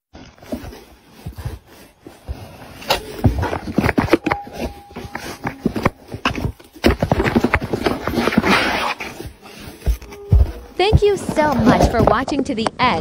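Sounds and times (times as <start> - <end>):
cat scraping inside cardboard box: 0.2 - 12.2.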